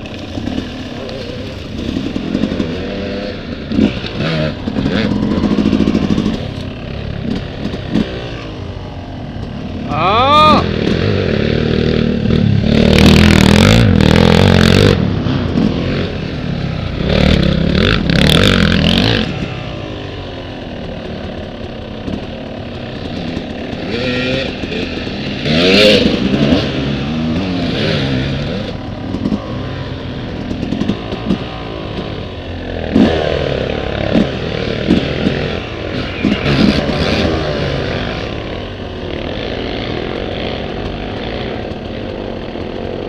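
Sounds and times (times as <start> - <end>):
dirt bikes racing past: 0.0 - 43.0.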